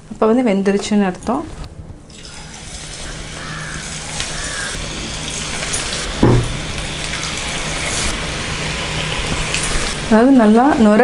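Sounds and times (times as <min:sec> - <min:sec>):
batter sizzling in hot oil: 0:02.1 - 0:11.0.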